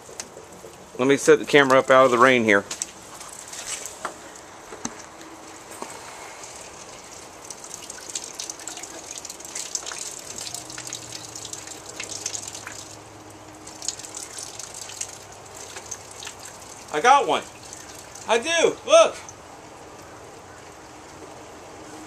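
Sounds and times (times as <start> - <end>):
drops ticking and dripping: 0.0 - 4.5, 6.5 - 21.3
rain falling: 0.0 - 21.9.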